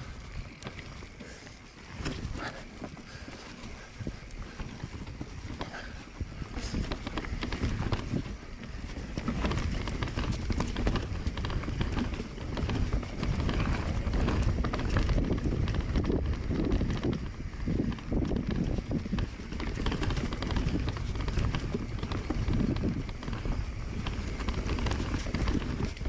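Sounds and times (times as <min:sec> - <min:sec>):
bike clattering over roots: 0:00.0 - 0:26.0.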